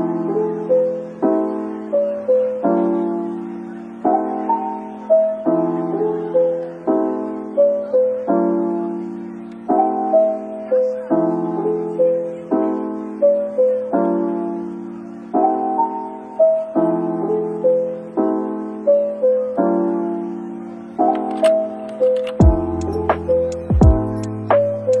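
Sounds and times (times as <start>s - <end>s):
soft piano music: 0.0s - 25.0s.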